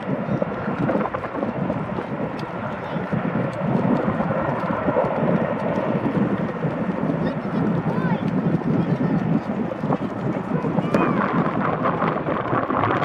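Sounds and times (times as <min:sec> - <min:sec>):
helicopter rotor chopping: 0:00.0 - 0:13.0
turbine engines running: 0:00.0 - 0:13.0.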